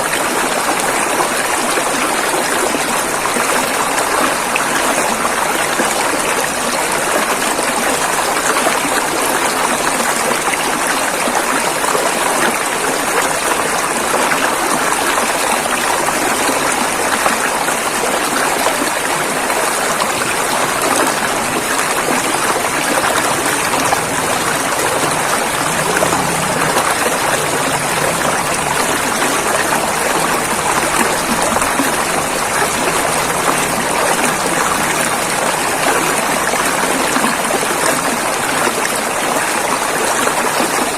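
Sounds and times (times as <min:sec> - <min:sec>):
river water rushing over rapids: 0:00.0 - 0:40.9.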